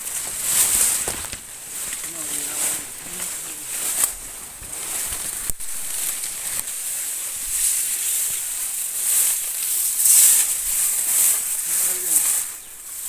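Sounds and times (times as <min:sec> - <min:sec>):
rustle of leaves and grass: 0:00.0 - 0:13.0.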